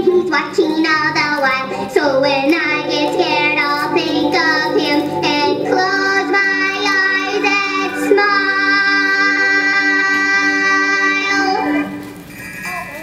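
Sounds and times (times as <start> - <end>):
child-like voice singing: 0.0 - 11.9
musical backing track: 0.0 - 13.0.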